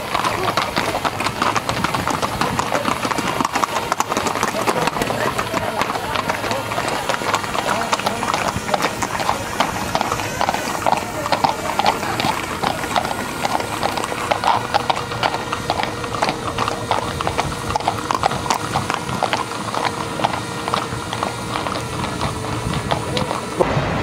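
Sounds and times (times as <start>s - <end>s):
horse hooves clip-clopping on pavement: 0.0s - 23.6s.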